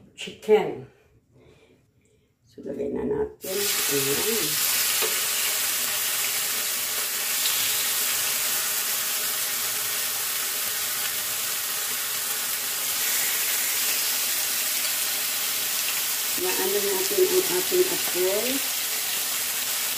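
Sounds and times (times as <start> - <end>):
chicken sizzling in a grill pan: 3.4 - 19.9.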